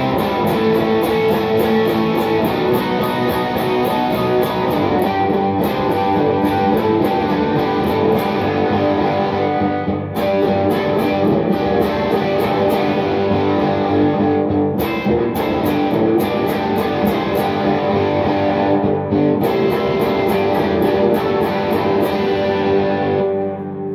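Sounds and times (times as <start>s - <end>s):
electric guitar strummed and picked: 0.0s - 23.9s.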